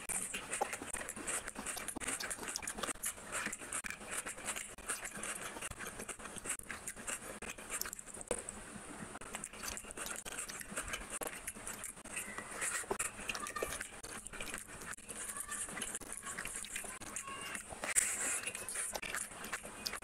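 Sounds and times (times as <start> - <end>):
chewing and lip smacking: 0.0 - 8.6, 9.2 - 20.0.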